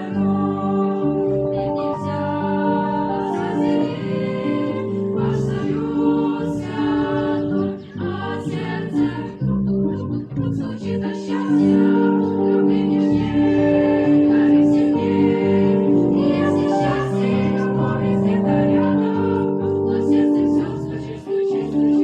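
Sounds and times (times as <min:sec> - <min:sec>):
voices singing with accompaniment: 0:00.0 - 0:22.0.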